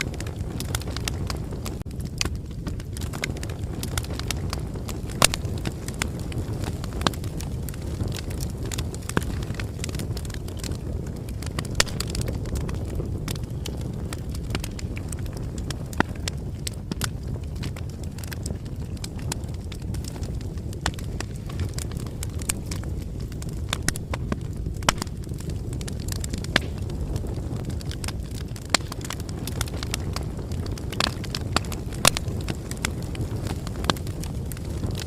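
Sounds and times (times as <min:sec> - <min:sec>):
bonfire burning: 0:00.0 - 0:35.0.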